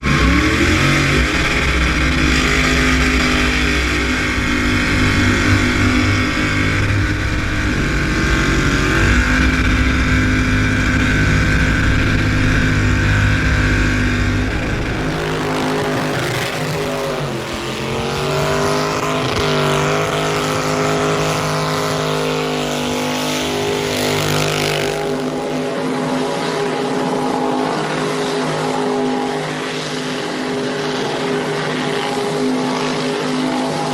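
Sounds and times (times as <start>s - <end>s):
vehicle engine revving high: 0.0s - 29.1s.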